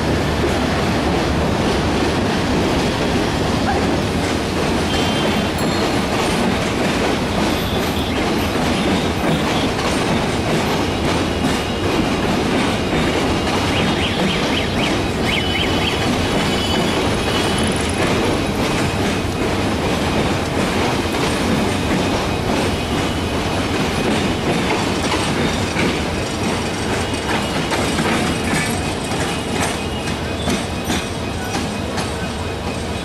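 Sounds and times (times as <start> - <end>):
train wheels clattering over joints: 2.3 - 33.0.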